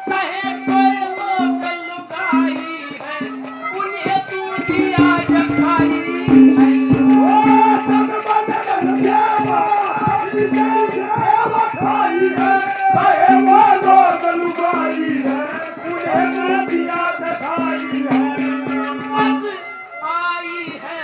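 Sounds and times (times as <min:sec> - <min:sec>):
hand-drum strokes: 0:00.0 - 0:19.6
rattling percussion: 0:00.0 - 0:19.7
bending folk melody: 0:00.0 - 0:20.4.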